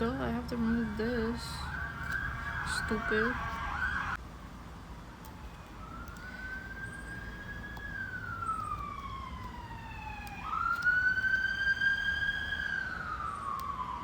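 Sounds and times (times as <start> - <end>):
emergency siren wailing: 0.3 - 4.2, 5.0 - 14.0.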